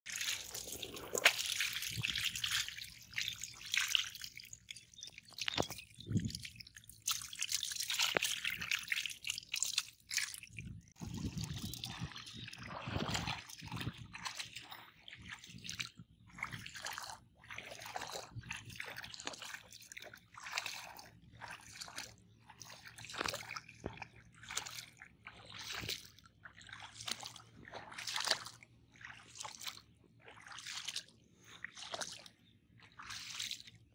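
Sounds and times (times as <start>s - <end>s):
footsteps wading through water: 0.0s - 33.9s
fish thrashing in water: 0.1s - 31.1s.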